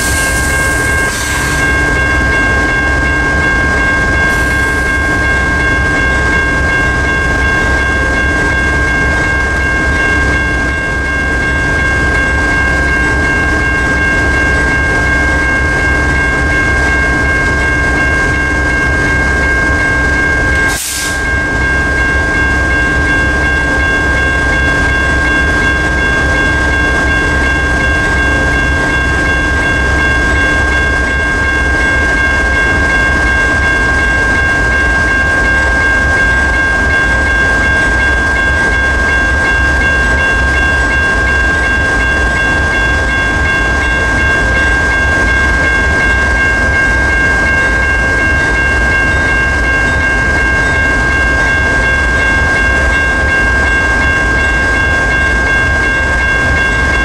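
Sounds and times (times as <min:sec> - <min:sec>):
diesel locomotive idling: 0:00.0 - 0:57.0
electronic crossing bell ringing: 0:00.0 - 0:57.0.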